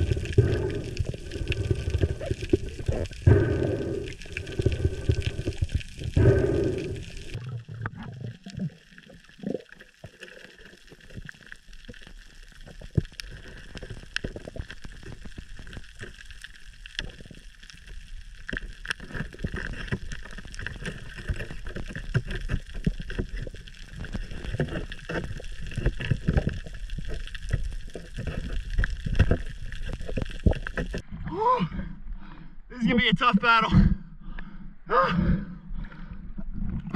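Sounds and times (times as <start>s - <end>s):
low rumble of moving water: 0.0s - 32.7s.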